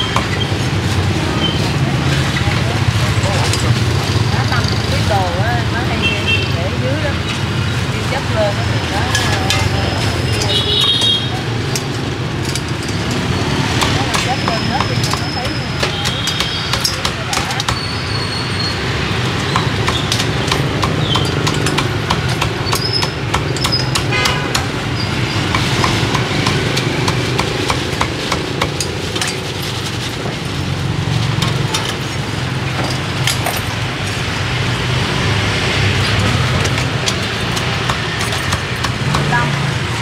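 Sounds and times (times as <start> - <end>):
street traffic hum: 0.0 - 40.0.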